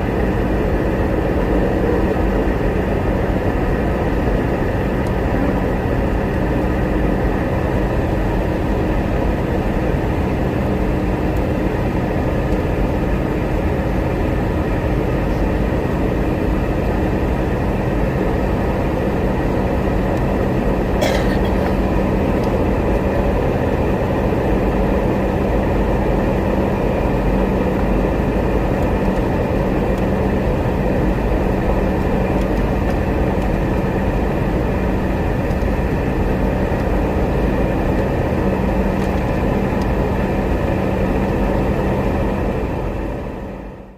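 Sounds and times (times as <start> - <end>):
jet engine drone: 0.0 - 43.9
steady hum: 0.0 - 43.9.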